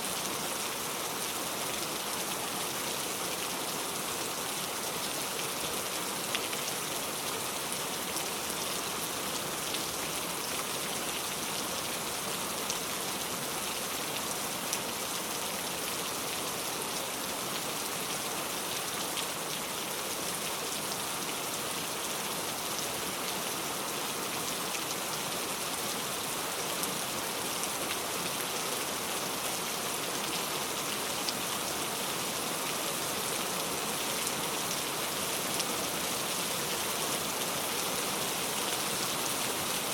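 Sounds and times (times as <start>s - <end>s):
heavy rain falling on a road: 0.0s - 39.9s.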